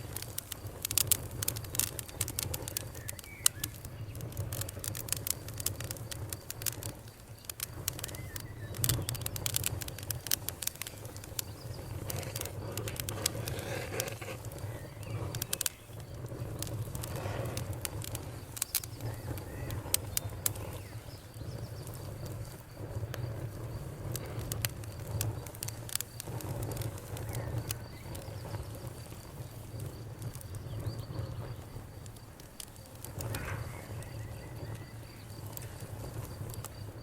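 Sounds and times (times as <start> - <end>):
bonfire crackling: 0.0 - 37.0
cricket chirping: 0.0 - 37.0.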